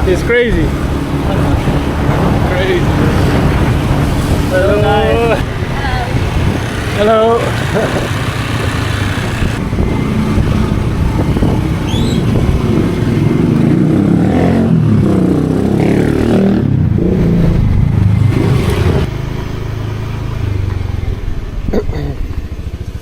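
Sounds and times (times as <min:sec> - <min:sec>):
motorbike engine running: 0:00.0 - 0:23.0.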